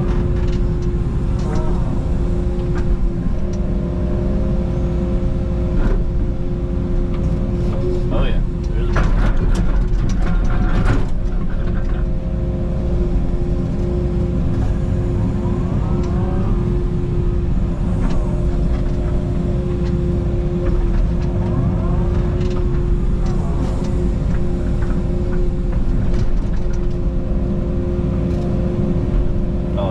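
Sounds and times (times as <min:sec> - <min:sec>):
excavator engine drone: 0:00.0 - 0:29.9
hydraulic whine: 0:00.0 - 0:29.9.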